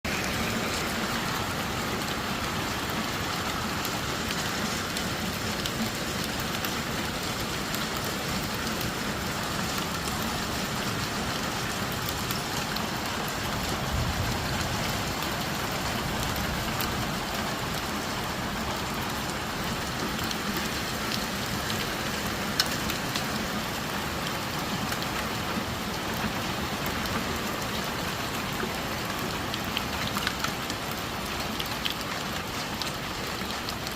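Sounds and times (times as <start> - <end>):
hail pattering: 0.1 - 33.9
hailstones clicking: 0.2 - 33.9.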